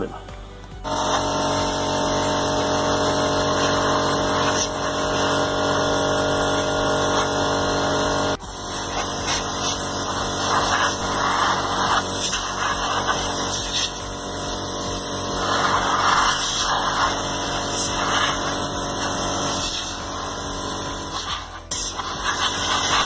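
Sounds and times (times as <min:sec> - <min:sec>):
air compressor humming: 0:00.0 - 0:23.0
compressed air hissing bursts: 0:00.9 - 0:23.0.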